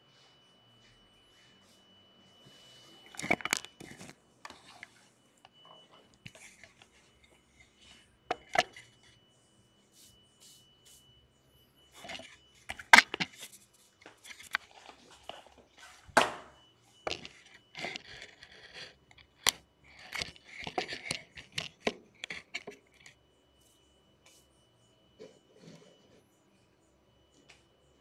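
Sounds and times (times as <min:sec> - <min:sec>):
faint high whine: 0:00.0 - 0:28.0.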